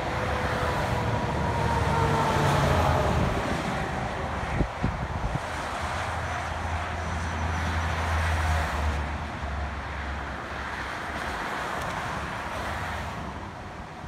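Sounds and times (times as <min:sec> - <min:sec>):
cars passing on highway: 0:00.0 - 0:14.0.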